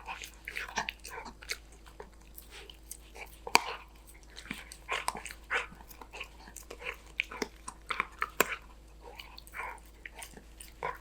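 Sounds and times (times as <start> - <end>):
puppy chewing a treat: 0.0 - 11.0.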